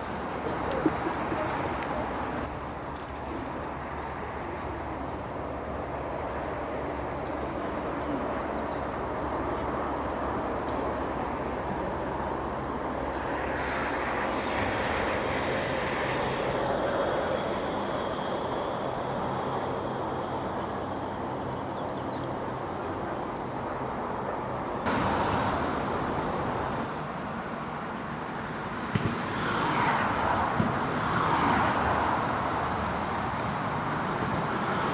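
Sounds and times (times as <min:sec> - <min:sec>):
train rumble: 0:00.0 - 0:28.1, 0:29.7 - 0:34.9.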